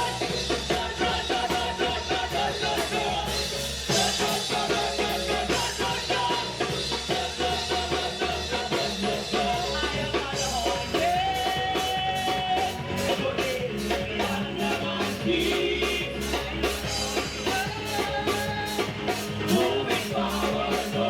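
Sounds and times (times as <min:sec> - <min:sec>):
band playing upbeat gospel song: 0:00.0 - 0:21.0
person singing: 0:00.0 - 0:21.0.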